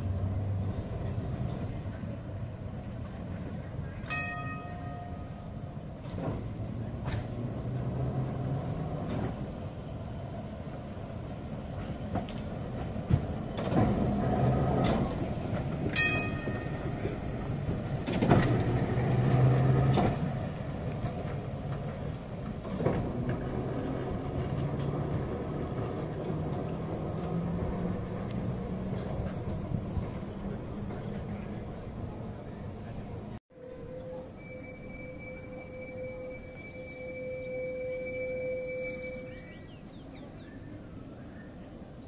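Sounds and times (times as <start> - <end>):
tram rumbling on rails: 0.0 - 42.0.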